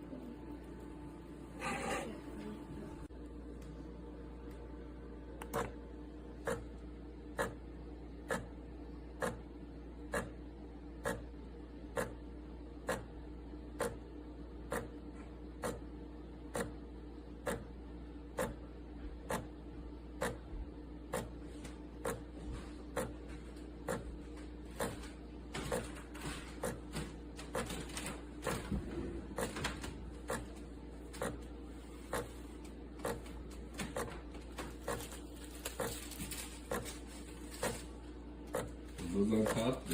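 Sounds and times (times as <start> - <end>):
espresso machine humming: 0.0 - 35.9.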